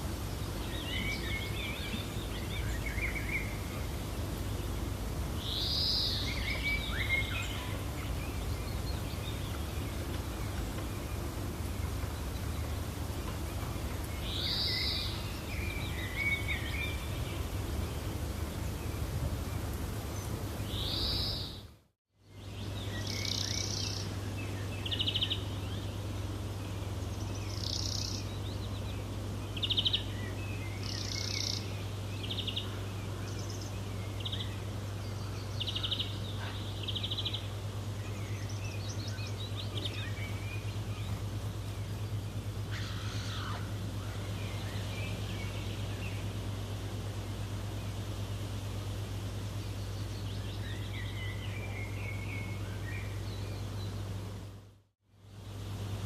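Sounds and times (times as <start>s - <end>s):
birds chirping and trilling: 0.0s - 54.6s
steady low hum: 0.0s - 56.0s.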